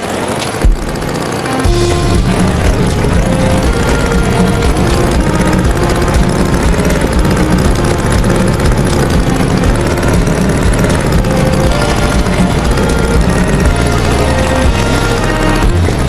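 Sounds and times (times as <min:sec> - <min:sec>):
tractor engine rumbling: 0:00.0 - 0:16.0.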